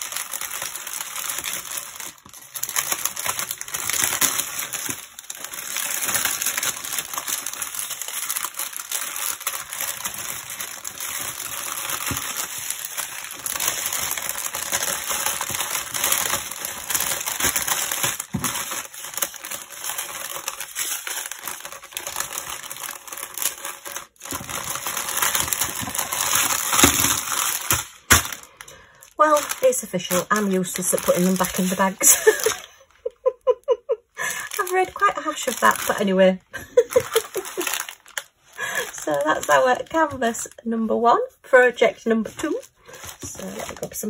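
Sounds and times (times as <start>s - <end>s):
plastic bags crinkling: 0.0s - 40.7s, 41.9s - 44.0s.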